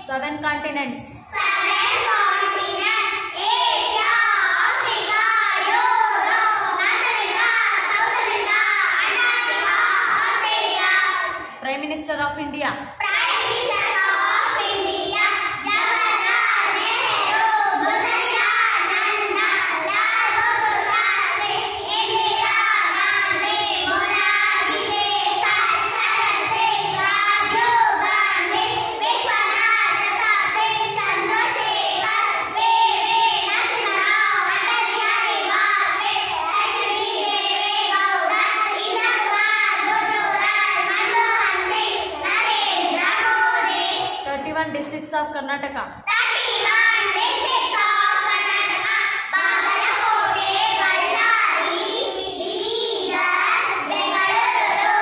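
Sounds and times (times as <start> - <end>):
girls singing in unison: 1.1 - 11.6, 12.8 - 44.2, 46.1 - 55.0.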